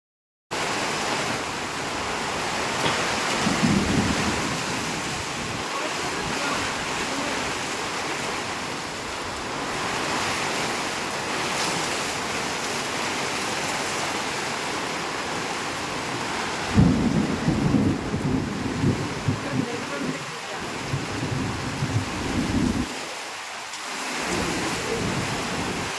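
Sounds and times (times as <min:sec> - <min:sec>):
heavy rain pouring: 0:00.5 - 0:25.9.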